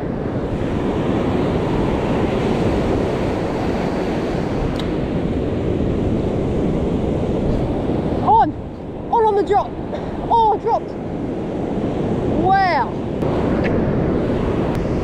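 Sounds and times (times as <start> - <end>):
surf breaking on a beach: 0.0 - 15.0
wind buffeting microphone: 0.0 - 15.0.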